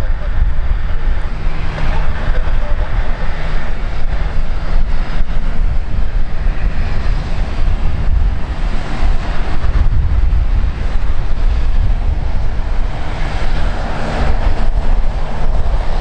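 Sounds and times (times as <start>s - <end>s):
airliner engine rush: 0.0s - 16.0s
wind buffeting microphone: 0.0s - 16.0s.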